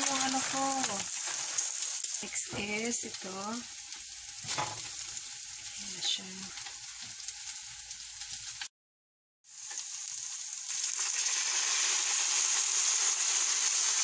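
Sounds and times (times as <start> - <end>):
noodles sizzling in frying pan: 0.0 - 8.7, 9.5 - 14.0.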